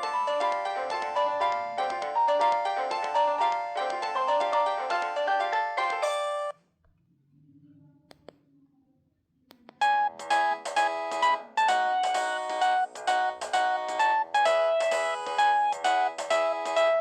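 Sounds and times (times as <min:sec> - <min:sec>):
phone ringtone melody: 0:00.0 - 0:06.6, 0:09.8 - 0:17.0.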